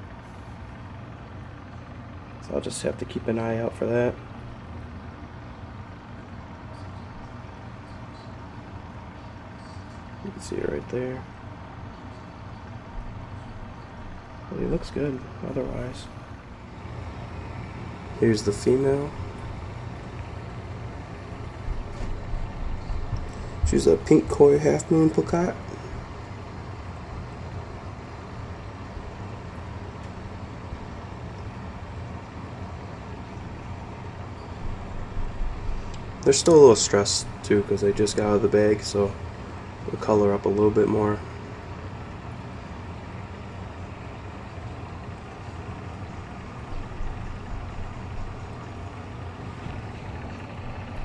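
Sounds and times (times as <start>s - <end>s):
low background rumble: 0.0s - 51.0s
steady low hum: 0.0s - 51.0s.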